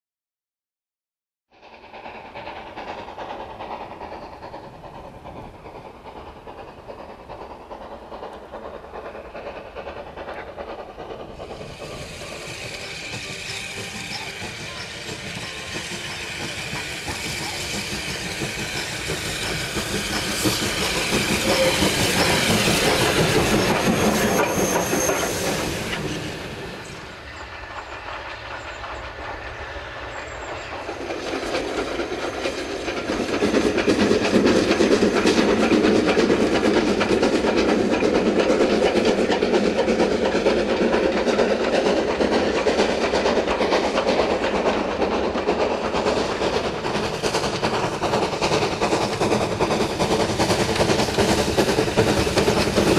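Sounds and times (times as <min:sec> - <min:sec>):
steam locomotive running: 0:01.5 - 0:52.9
train wheels on rails: 0:01.6 - 0:52.9.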